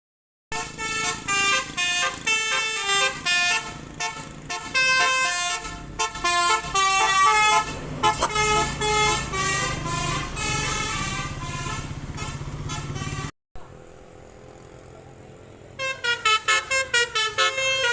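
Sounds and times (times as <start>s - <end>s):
musical vehicle horn: 0.5s - 13.3s, 15.7s - 17.9s.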